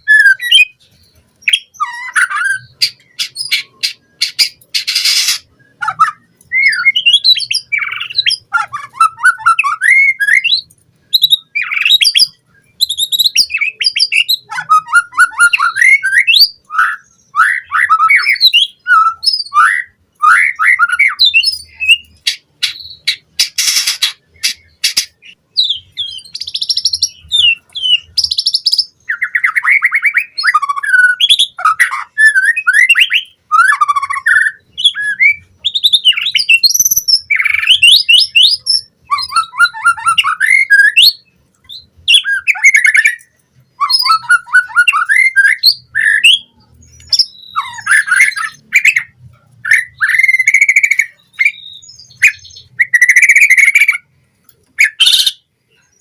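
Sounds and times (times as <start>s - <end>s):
songbird whistling and trilling: 0.0s - 54.1s, 54.7s - 56.0s.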